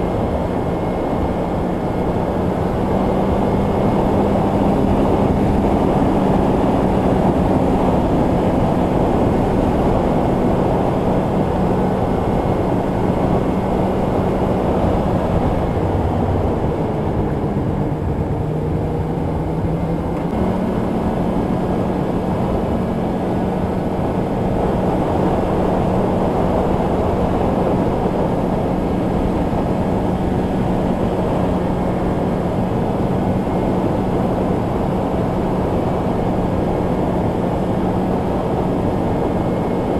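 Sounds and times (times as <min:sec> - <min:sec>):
snowmobile engine drone: 0:00.0 - 0:39.9
track noise: 0:00.0 - 0:39.9.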